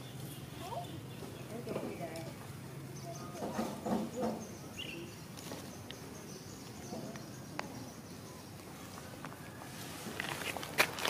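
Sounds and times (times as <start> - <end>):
birds: 0.0 - 10.2.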